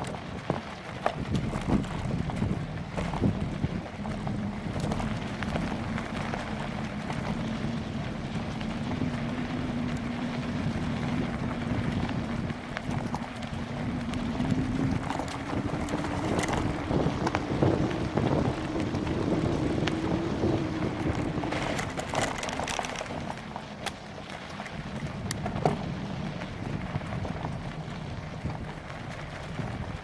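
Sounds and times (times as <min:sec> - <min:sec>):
bicycle tyres rolling on trail: 0:00.0 - 0:30.0
knocks and rattles of bicycle: 0:00.0 - 0:30.0
wind buffeting microphone: 0:00.0 - 0:30.0
low hum: 0:01.2 - 0:30.0.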